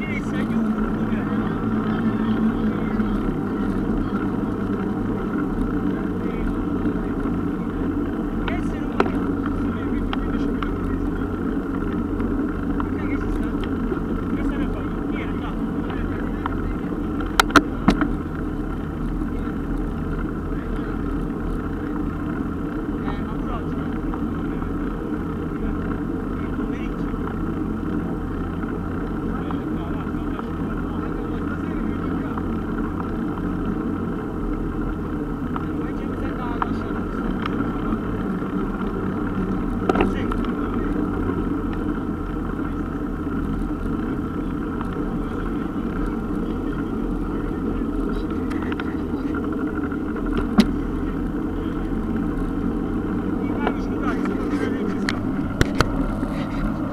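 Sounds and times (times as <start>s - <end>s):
bike tyres rumbling on asphalt: 0.0s - 56.9s
wind and road noise: 0.0s - 56.9s.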